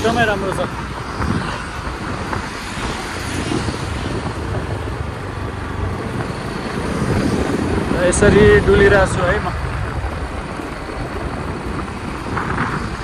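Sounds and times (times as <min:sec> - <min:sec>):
motorbike engine and road noise: 0:00.0 - 0:13.0
wind buffeting microphone: 0:00.0 - 0:13.0.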